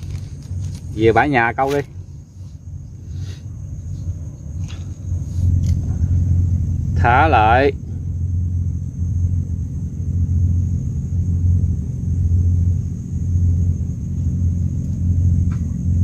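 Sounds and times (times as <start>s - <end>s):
low rumble in slow waves: 0.0s - 16.0s.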